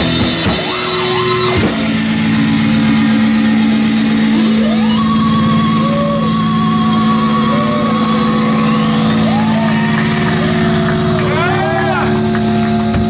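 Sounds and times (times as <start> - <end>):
noisy wash: 0.0 - 13.0
steady low hum: 0.0 - 13.0
synthesizer drones and pitch glides: 0.0 - 13.0.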